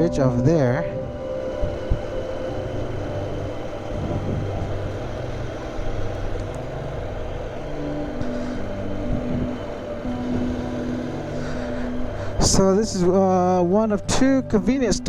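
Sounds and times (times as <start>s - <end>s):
higher engine tone: 0.0s - 15.0s
motorcycle engine revving: 1.0s - 13.3s.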